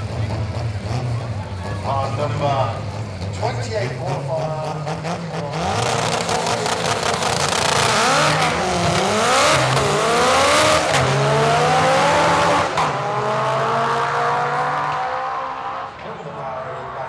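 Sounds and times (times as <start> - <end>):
drag race cars accelerating: 0.0 - 17.0.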